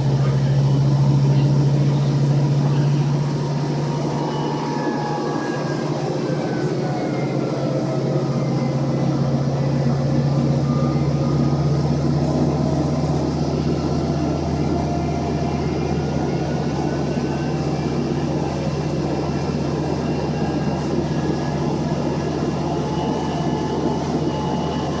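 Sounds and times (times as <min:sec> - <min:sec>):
bus engine pulling under load: 0:00.0 - 0:25.0.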